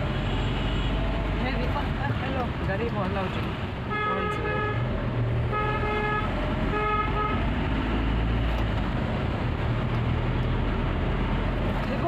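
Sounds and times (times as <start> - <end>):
engine rumble and road noise: 0.0 - 12.0.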